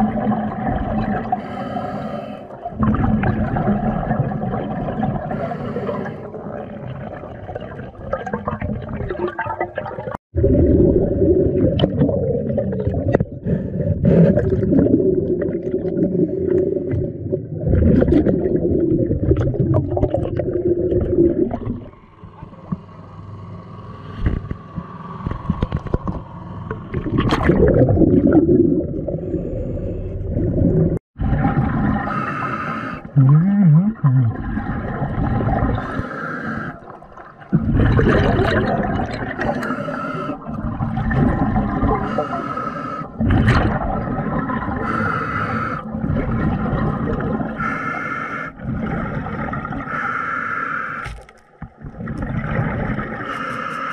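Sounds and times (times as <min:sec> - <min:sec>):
underwater bubbling and gurgling: 0:00.0 - 0:53.9.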